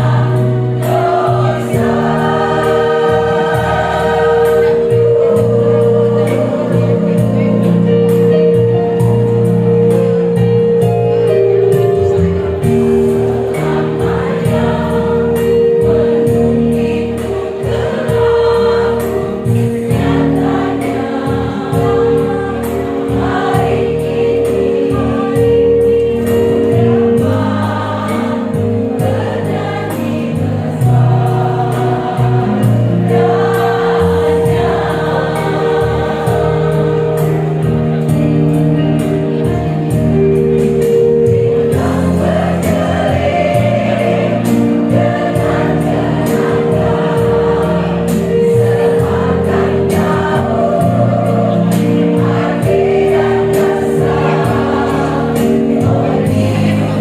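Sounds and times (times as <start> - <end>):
women's choir singing: 0.0 - 9.6, 11.4 - 57.0.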